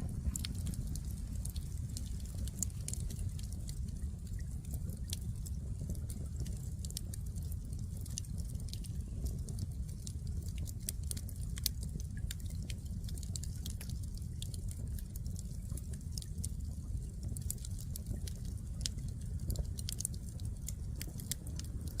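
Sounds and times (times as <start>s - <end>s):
firewood crackling and popping: 0.0s - 22.0s
low fire rumble: 0.0s - 22.0s.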